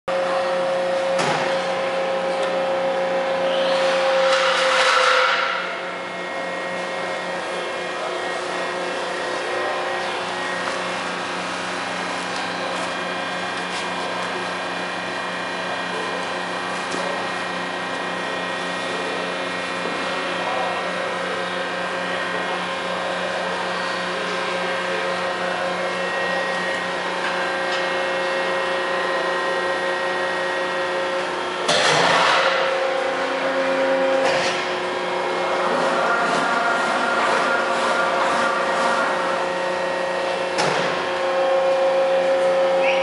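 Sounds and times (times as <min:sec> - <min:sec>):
machine motors humming: 0:00.1 - 0:43.0.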